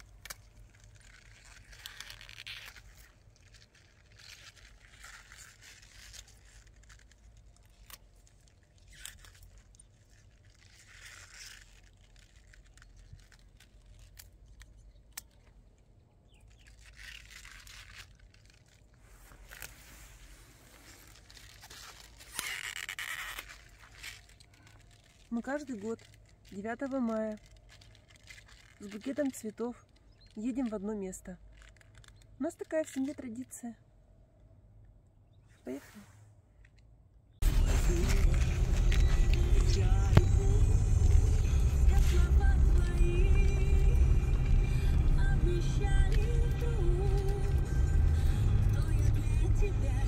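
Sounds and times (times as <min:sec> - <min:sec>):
leaves rustling and tearing: 0:00.0 - 0:33.5, 0:37.4 - 0:50.0.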